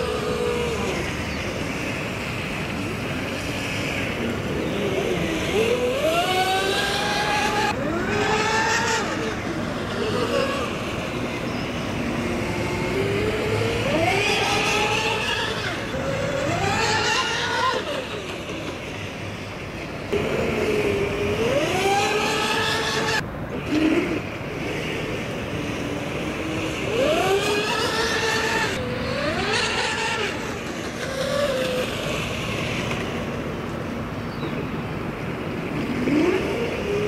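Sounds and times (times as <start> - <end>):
electric motors whining: 0.0 - 34.2, 35.1 - 37.0.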